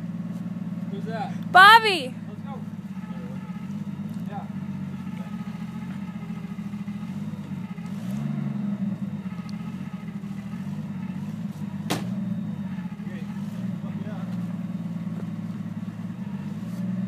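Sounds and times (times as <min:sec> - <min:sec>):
snowcat engine running: 0:00.0 - 0:17.0.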